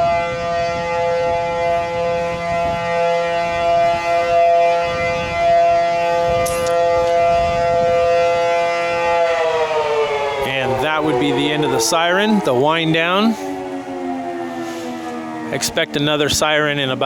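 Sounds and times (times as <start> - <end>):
siren steady loud tone: 0.0 - 17.0.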